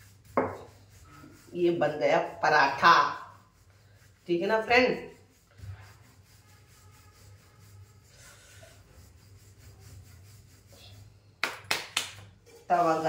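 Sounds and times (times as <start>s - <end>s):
rolling pin rubbing on dough: 0.0s - 11.3s, 12.5s - 13.0s.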